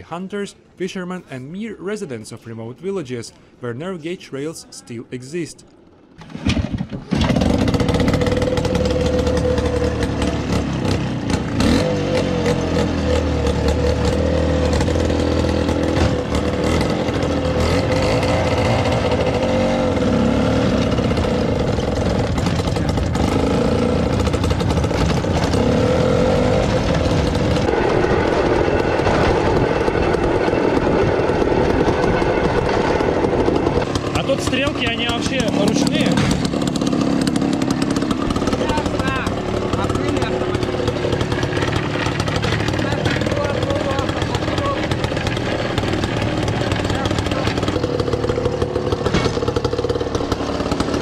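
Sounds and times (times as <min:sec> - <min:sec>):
small engine running loudly: 0:07.1 - 0:51.0
rail car wheels clicking on rails: 0:07.4 - 0:20.1, 0:20.8 - 0:51.0.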